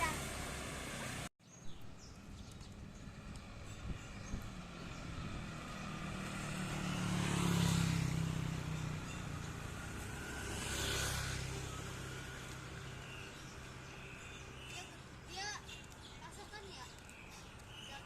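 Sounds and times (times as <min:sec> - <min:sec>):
engine passing by: 0:00.0 - 0:01.3, 0:02.0 - 0:18.0.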